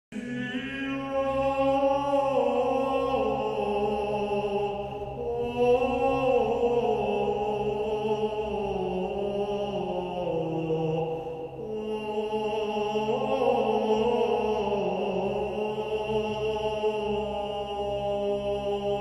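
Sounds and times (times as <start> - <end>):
slow chant-like devotional music: 0.1 - 19.0
low drone: 0.2 - 19.0.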